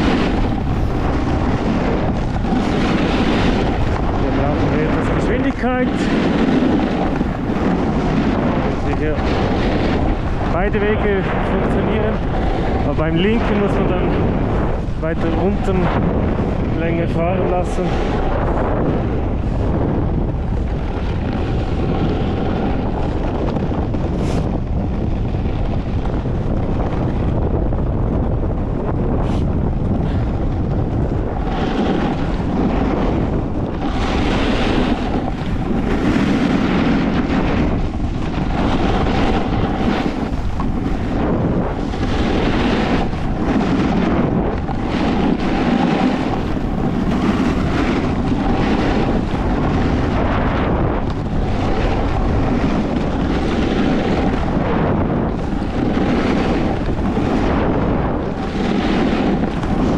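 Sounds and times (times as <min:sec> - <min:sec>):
snowboard sliding on snow: 0:00.0 - 0:59.9
wind rushing over microphone: 0:00.0 - 0:59.9.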